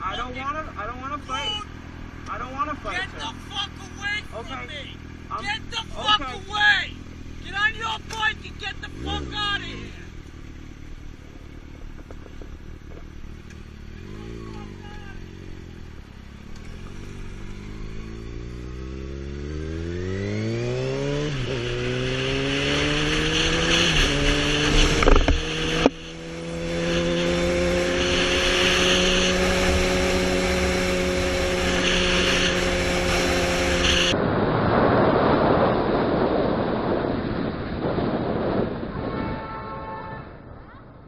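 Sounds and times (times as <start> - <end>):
motorcycle engine accelerating: 0.0 - 39.1
rushing wind and road noise: 0.0 - 41.0.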